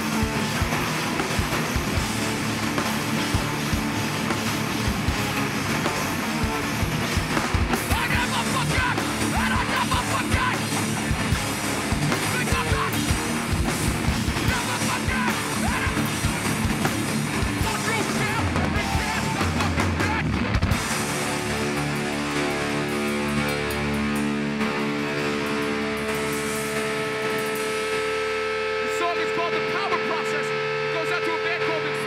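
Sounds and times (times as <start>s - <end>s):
bass guitar: 0.0s - 32.0s
distorted electric guitars: 0.0s - 32.0s
fast pounding drums: 0.0s - 32.0s.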